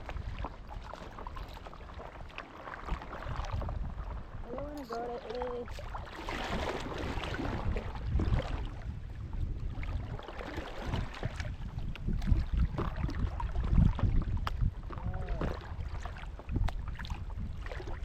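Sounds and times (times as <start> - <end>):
paddle splashing water: 0.0 - 18.0
wind rumble on microphone: 0.0 - 18.0.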